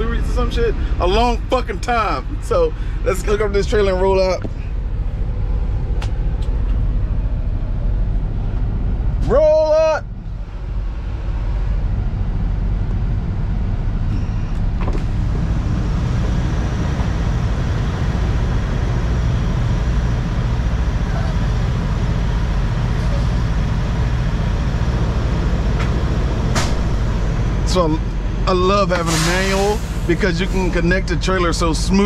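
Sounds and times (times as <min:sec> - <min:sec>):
truck diesel engine running: 0:00.0 - 0:32.0.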